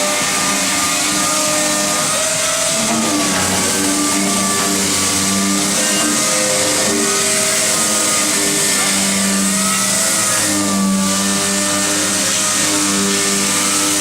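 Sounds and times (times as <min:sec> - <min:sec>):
power sander on sheet metal: 0:00.0 - 0:14.0.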